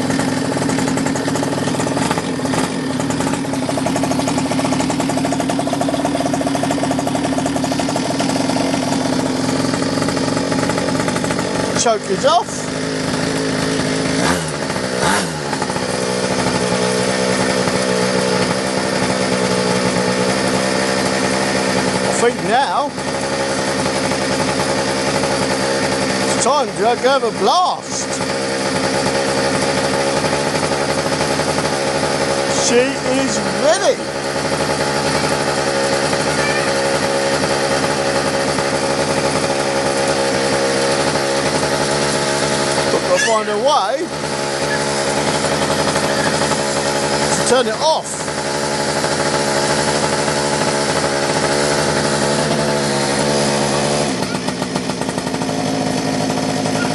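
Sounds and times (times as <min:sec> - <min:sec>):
small two-stroke engine revving: 0:00.0 - 0:56.9.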